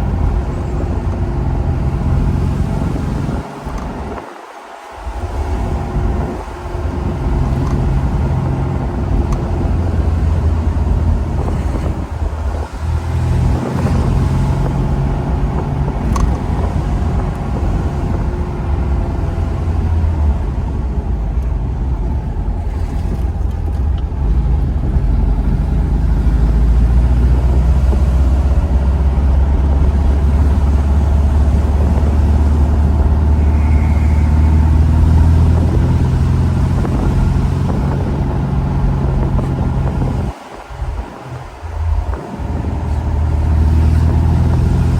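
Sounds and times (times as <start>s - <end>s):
car engine from inside cabin: 0.0s - 44.9s.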